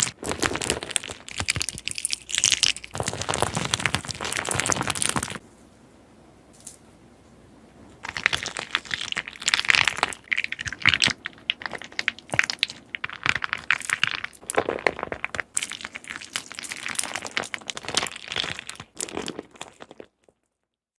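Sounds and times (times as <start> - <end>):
slime crackling and popping: 0.0 - 5.4, 8.0 - 20.6.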